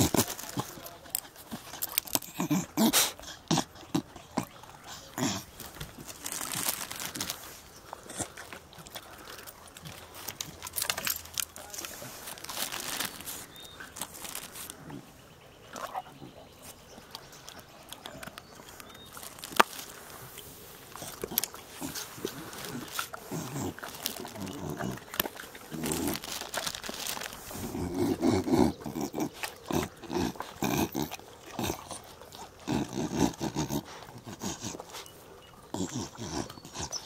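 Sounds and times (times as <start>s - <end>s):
dogs crunching carrots: 0.0s - 37.0s.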